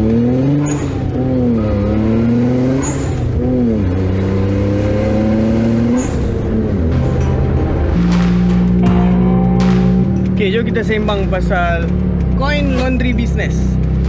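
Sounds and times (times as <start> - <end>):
turbocharged engine accelerating: 0.0 - 14.0.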